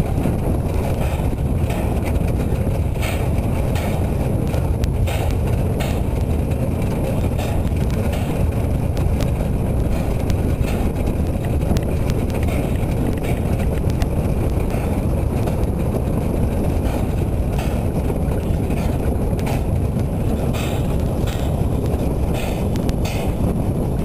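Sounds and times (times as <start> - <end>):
train wheels rumbling on rails: 0.0 - 24.0
wheel clacks and knocks: 0.0 - 24.0.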